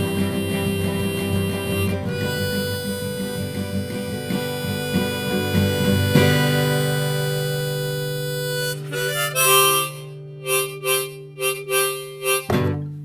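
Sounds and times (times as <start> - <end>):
acoustic guitar chords: 0.0 - 13.0
harmonica short notes: 0.0 - 13.0.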